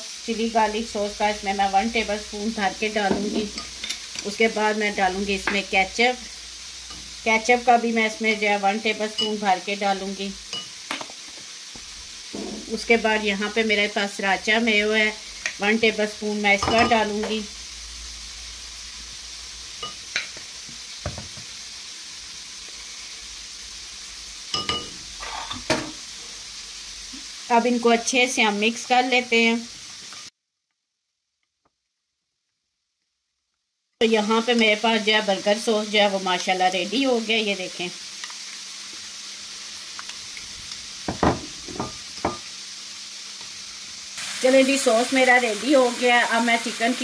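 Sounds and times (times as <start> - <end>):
chicken sizzling in hot oil: 0.0 - 30.4, 34.0 - 47.0.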